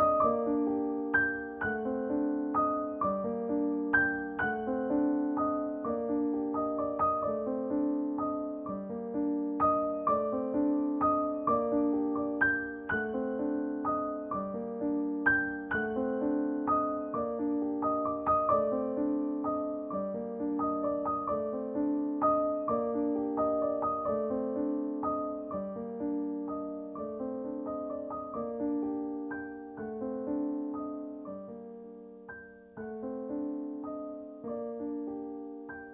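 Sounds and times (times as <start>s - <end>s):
solo piano music: 0.0s - 35.9s.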